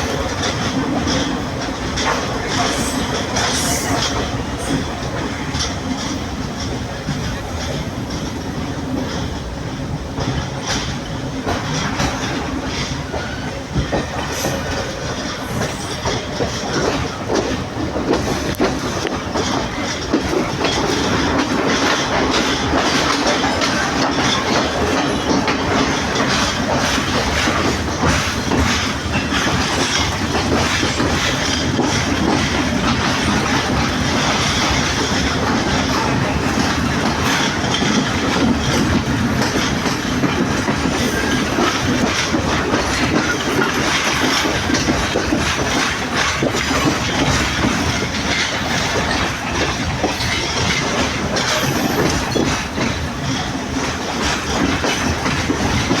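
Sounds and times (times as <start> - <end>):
train running on track: 0.0 - 56.0
wheels clicking over rail joints: 0.0 - 56.0.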